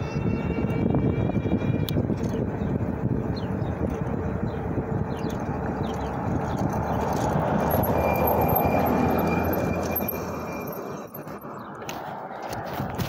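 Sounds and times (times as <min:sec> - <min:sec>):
wind rushing over microphone: 0:00.0 - 0:13.0
bike tyre noise on pavement: 0:01.6 - 0:13.0.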